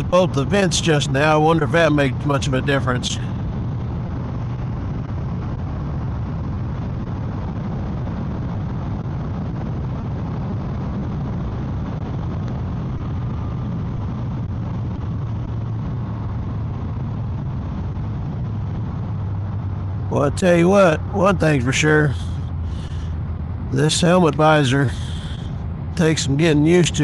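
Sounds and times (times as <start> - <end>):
motorcycle engine drone: 0.0 - 27.0
wind rushing around helmet: 0.0 - 27.0.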